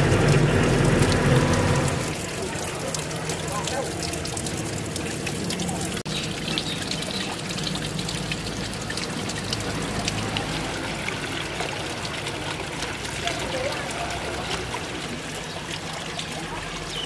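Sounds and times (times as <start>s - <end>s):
fountain water pouring and splashing: 0.0s - 17.0s.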